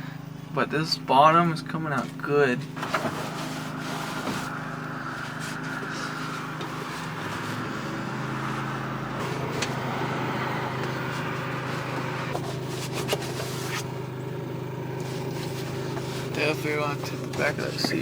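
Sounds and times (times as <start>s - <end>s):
motor humming: 0.1s - 18.0s.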